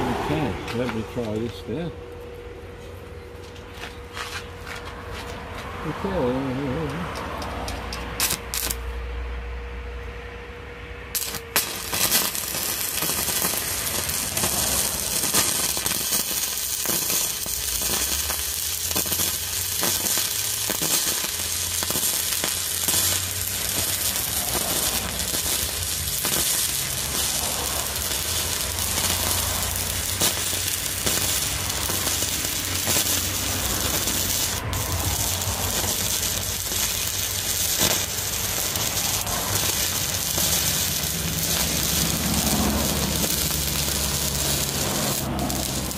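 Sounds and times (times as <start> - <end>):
welding arc crackling: 6.3 - 9.0, 11.1 - 45.9.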